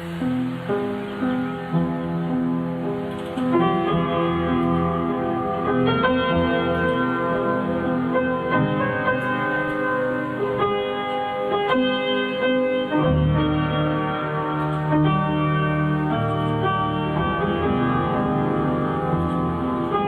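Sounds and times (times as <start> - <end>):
keyboard chords with piano notes: 0.0 - 20.0.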